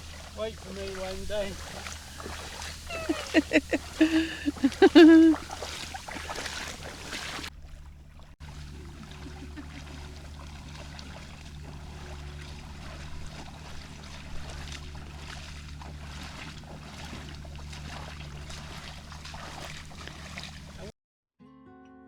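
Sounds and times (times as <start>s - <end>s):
low engine drone: 0.0s - 20.9s.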